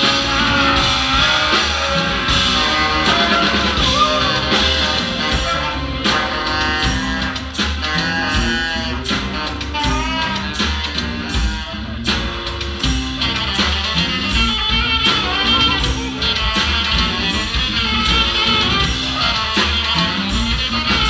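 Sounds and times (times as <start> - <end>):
guitar: 0.0 - 21.0
live band music: 0.0 - 21.0.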